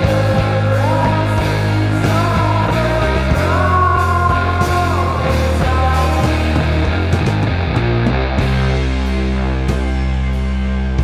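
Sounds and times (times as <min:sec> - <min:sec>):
bass: 0:00.0 - 0:11.0.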